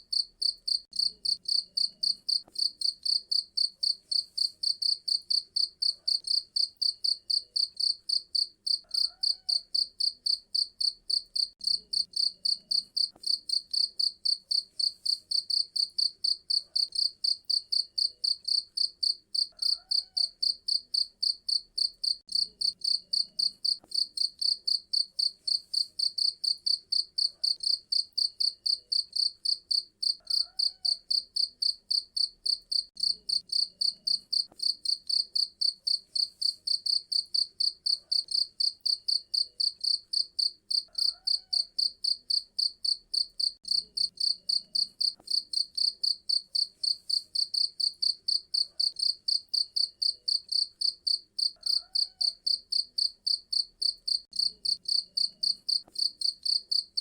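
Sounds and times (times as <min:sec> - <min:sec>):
cricket chirping: 0:00.1 - 0:57.0.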